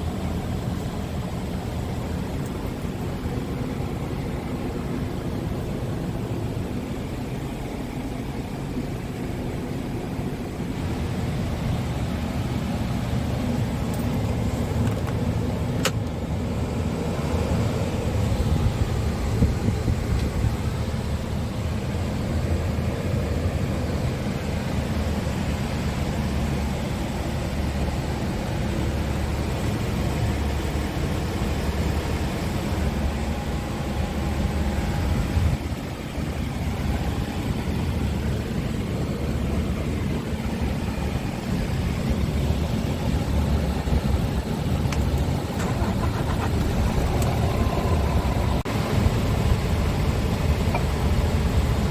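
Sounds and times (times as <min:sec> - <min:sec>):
diesel engine humming: 0:00.0 - 0:51.9.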